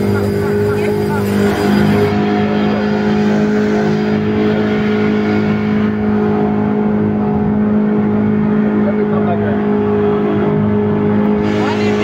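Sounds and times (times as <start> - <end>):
speedboat engine running: 0.0 - 12.0.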